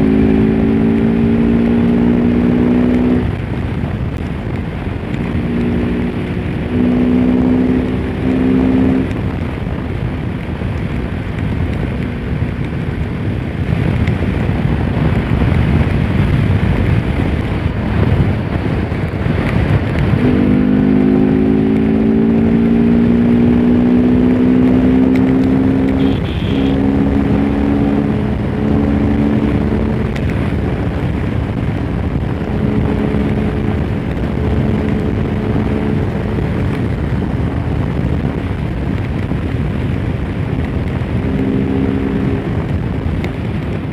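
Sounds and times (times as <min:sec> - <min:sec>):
motorcycle engine running: 0:00.0 - 0:43.9
wind rush on microphone: 0:00.0 - 0:43.9.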